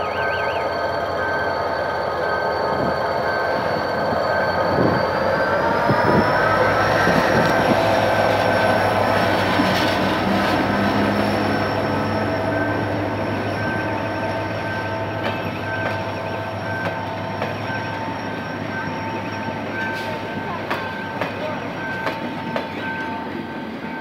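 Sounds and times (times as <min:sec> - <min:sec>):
squealing wheels: 0:00.0 - 0:20.3
train passing: 0:00.0 - 0:24.0.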